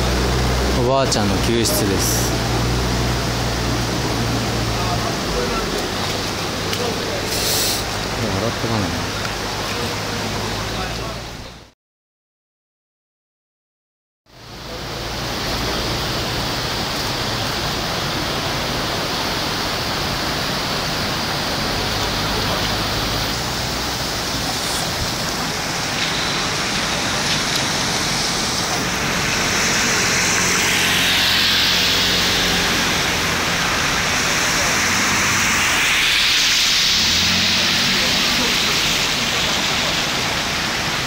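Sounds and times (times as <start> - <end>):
floodwater rushing: 0.0 - 11.6, 14.3 - 41.0.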